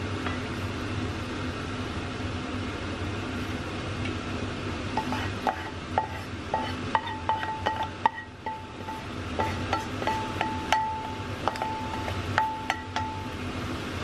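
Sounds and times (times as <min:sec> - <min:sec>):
food simmering hiss: 0:00.0 - 0:14.0.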